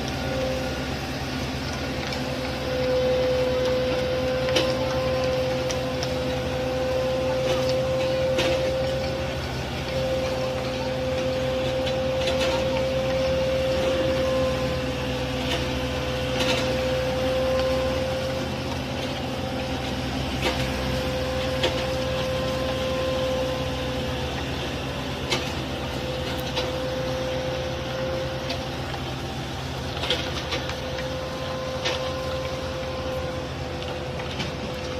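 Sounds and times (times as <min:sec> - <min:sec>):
construction machinery engine drone: 0:00.0 - 0:34.9
steady machine whine: 0:00.0 - 0:34.9.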